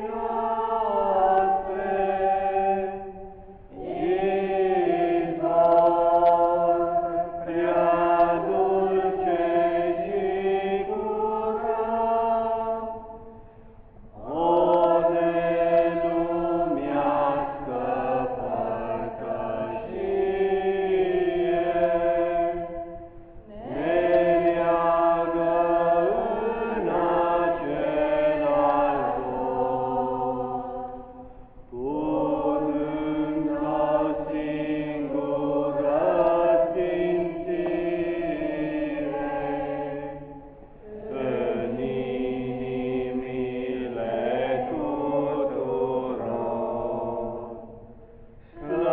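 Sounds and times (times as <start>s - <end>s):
girls singing a hymn: 0.0s - 48.9s.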